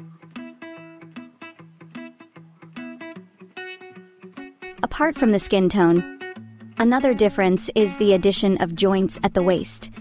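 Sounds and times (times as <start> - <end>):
plucked string instrument: 0.0 - 10.0.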